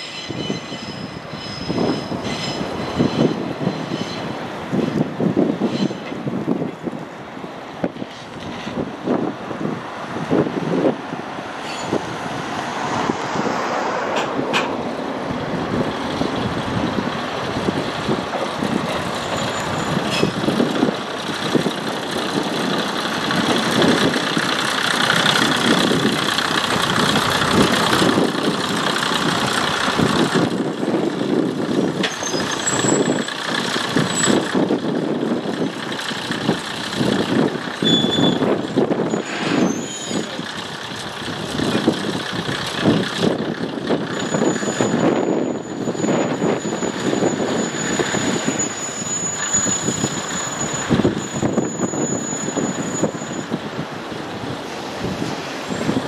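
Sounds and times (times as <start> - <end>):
diesel railcar engine running: 0.0 - 56.0
train wheels rumbling over rails: 0.0 - 56.0.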